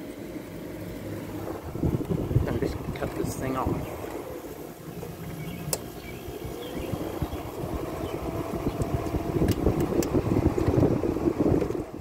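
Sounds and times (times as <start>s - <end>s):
air conditioner fan winding down: 0.0s - 12.0s
wind rumbling on microphone: 1.3s - 12.0s.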